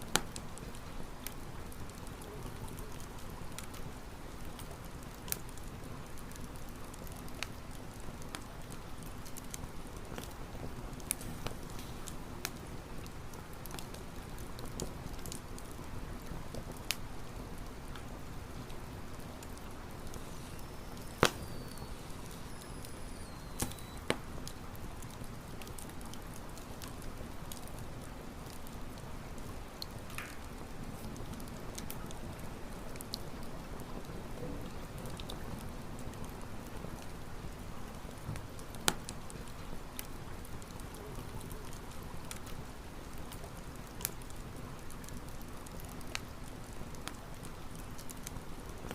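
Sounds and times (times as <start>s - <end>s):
burning wood popping: 0.0s - 36.8s, 37.4s - 48.9s
campfire crackling: 0.0s - 48.9s.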